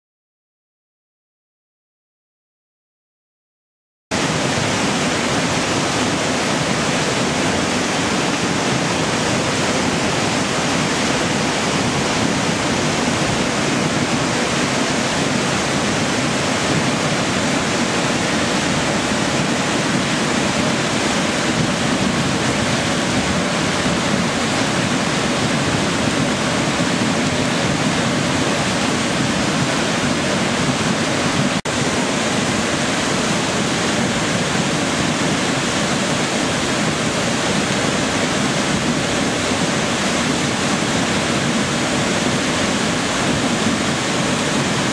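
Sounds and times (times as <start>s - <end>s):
rushing stream water: 4.1s - 44.9s.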